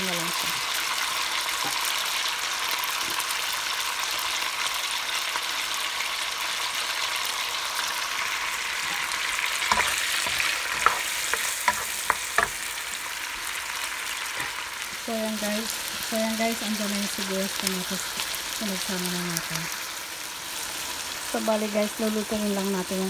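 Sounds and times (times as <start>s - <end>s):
meat and garlic sizzling in oil: 0.0s - 23.0s.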